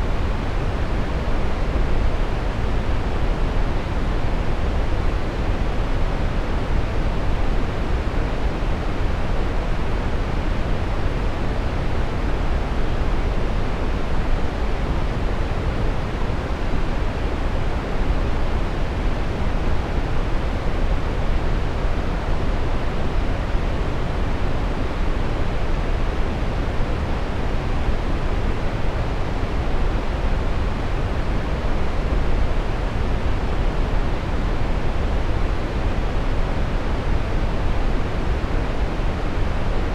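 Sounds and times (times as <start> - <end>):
brown noise rushing hiss: 0.0 - 39.9.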